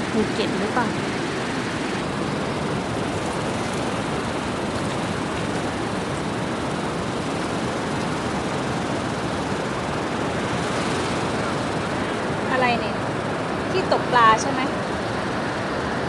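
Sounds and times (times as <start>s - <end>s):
small waves on sandy beach: 0.0s - 16.0s.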